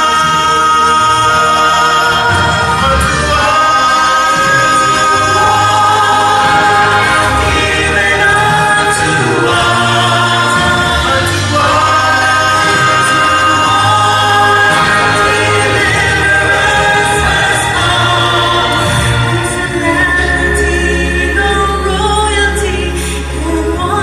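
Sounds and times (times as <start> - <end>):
bass accompaniment: 0.0 - 24.0
gospel choir singing: 0.0 - 24.0.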